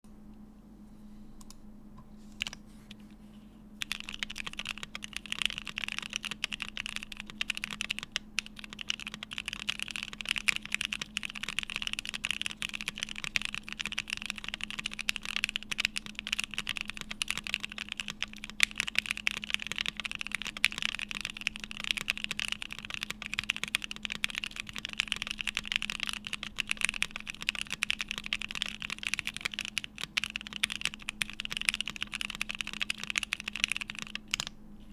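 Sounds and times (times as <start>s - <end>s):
faint steady hum: 0.0s - 34.9s
mechanical keyboard typing: 3.8s - 34.5s.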